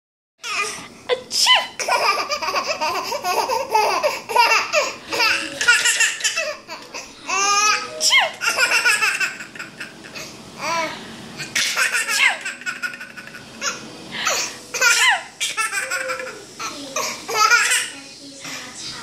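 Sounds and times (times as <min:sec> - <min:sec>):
baby laughing: 0:00.4 - 0:18.0.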